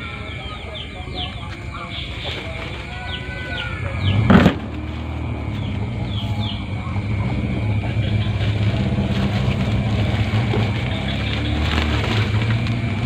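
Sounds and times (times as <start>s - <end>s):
small birds chirping: 0.0s - 13.0s
vehicle engine hum: 0.0s - 13.0s.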